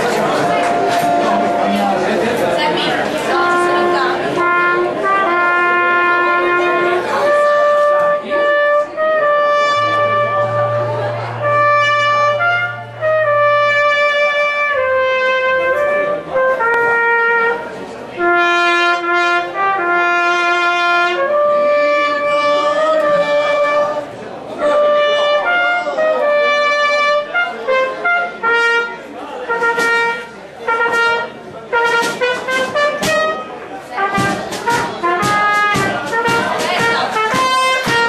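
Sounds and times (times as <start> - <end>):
trumpet playing slow melody: 3.3 - 38.0.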